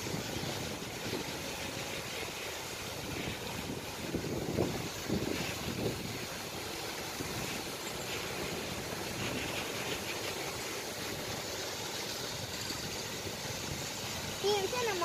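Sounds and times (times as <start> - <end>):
paddlewheel aerators churning water: 0.0 - 15.0.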